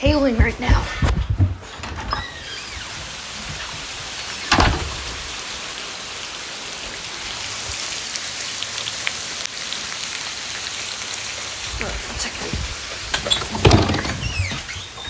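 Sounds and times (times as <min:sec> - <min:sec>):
hail hissing on surfaces: 0:02.2 - 0:15.0.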